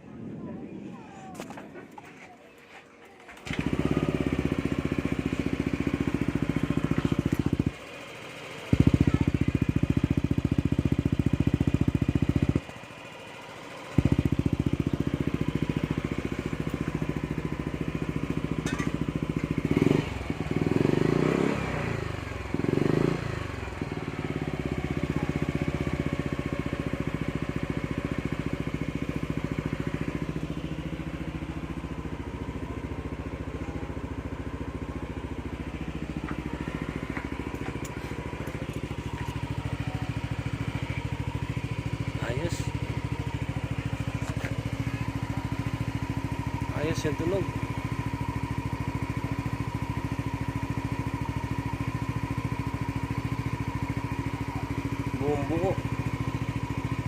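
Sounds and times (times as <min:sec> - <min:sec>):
scooter engine idling and revving: 0:00.0 - 0:57.0.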